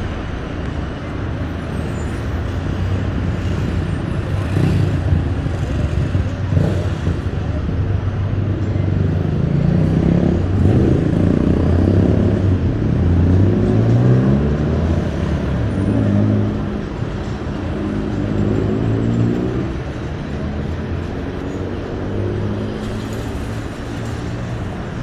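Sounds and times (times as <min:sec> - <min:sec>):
car engines pulling away: 0:00.0 - 0:25.0
steady traffic rumble: 0:00.0 - 0:25.0.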